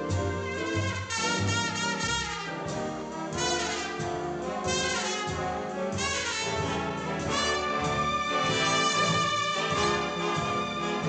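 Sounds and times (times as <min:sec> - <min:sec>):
jazz orchestra dance music: 0:00.0 - 0:11.0
trombone falling slides: 0:00.0 - 0:11.0.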